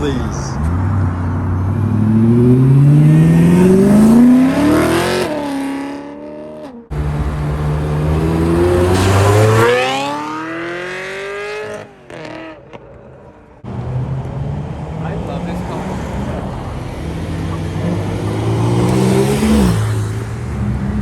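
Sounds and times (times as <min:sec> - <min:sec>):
car engine accelerating hard: 0:00.5 - 0:12.9, 0:14.9 - 0:21.0.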